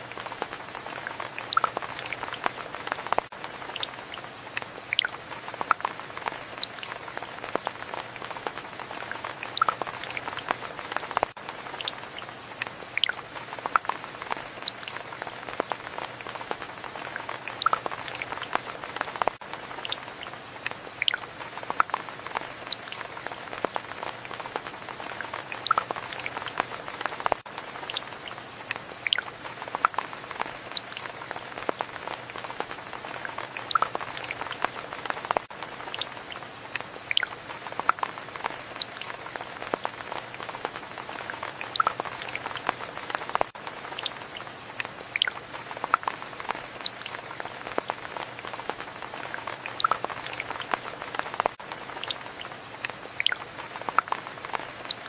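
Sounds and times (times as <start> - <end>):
raindrops ticking and dripping: 0.0 - 55.0
steady rain: 0.0 - 55.0.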